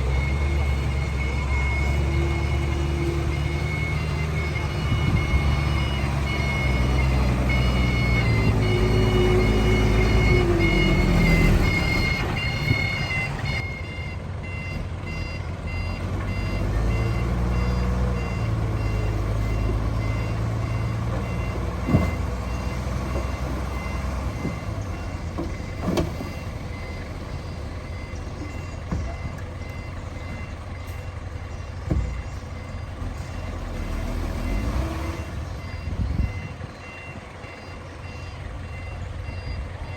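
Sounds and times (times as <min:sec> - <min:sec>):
heavy machinery diesel engine: 0:00.0 - 0:39.9
reversing alarm beeping: 0:00.0 - 0:39.9.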